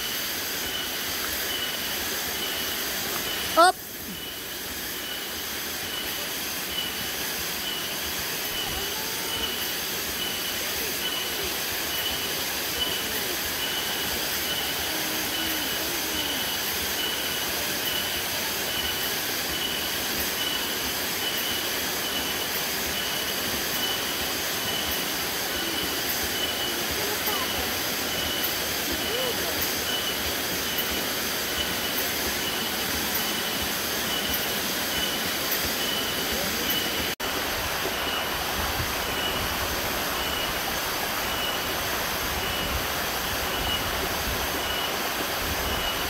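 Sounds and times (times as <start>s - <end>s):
high insect chirp: 0.0s - 46.0s
rushing stream and waterfalls: 0.0s - 46.0s.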